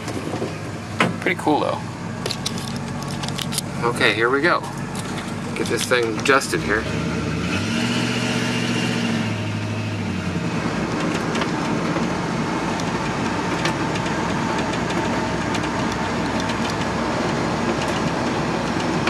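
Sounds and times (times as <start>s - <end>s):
road noise: 0.0s - 19.0s
truck engine from inside cab: 0.0s - 19.0s.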